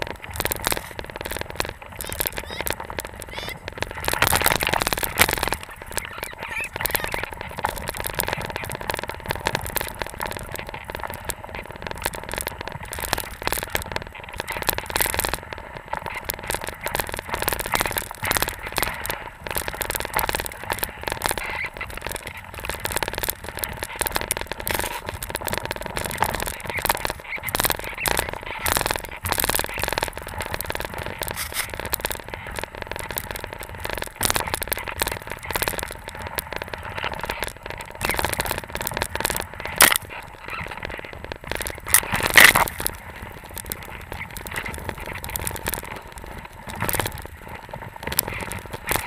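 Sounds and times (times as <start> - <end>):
skis sliding over snow: 0.0 - 49.0
snow crackles and scrapes: 0.0 - 49.0.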